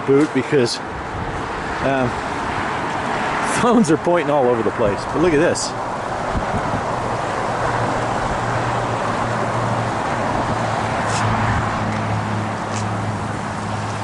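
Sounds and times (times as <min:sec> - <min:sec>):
road and air noise: 0:00.0 - 0:14.0
car engine hum: 0:00.8 - 0:14.0.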